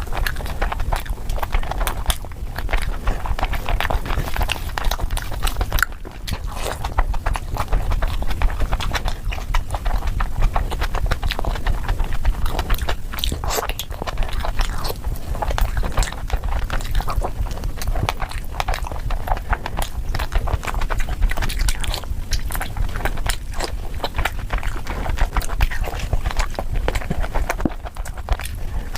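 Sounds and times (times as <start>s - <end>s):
chewing and biting food: 0.0s - 28.9s.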